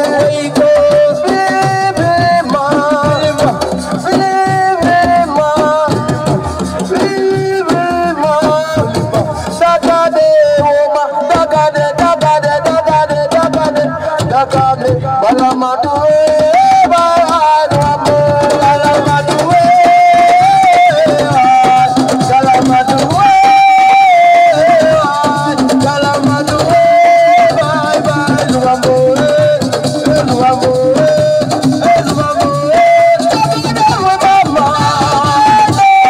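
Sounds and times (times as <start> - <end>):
hand drums and percussion: 0.0 - 36.0.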